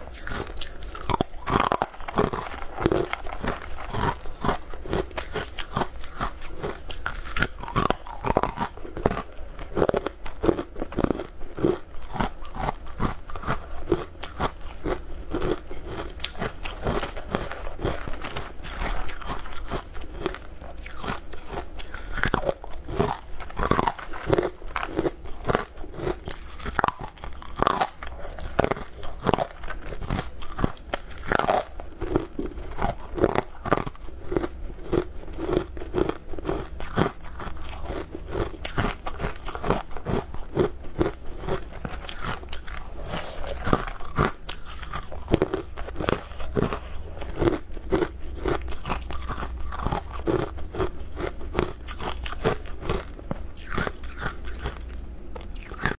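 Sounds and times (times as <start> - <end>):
crunching hard food: 0.0 - 55.9.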